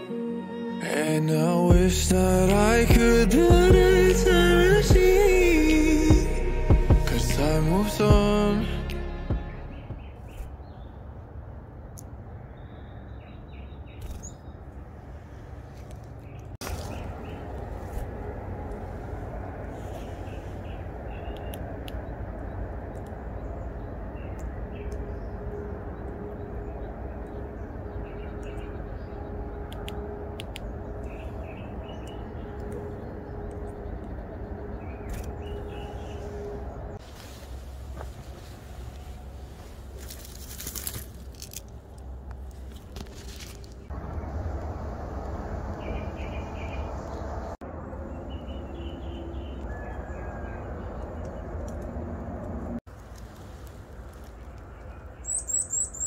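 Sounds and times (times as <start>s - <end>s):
songbirds chirping: 1.3s - 56.0s
steady low rumble: 1.7s - 11.3s, 16.6s - 55.3s.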